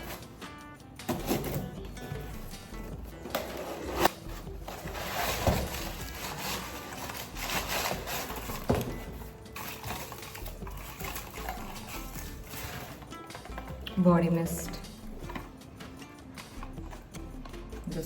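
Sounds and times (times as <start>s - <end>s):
parcel packaging rustling: 0.0s - 0.4s, 1.1s - 15.6s
background music: 0.0s - 18.0s.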